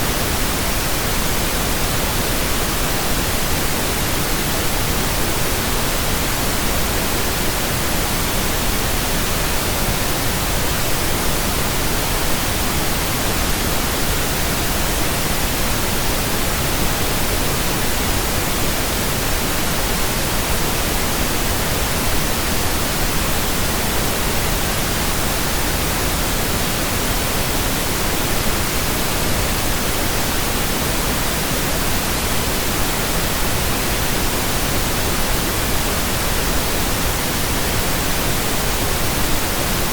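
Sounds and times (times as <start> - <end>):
pink noise static: 0.0 - 39.9.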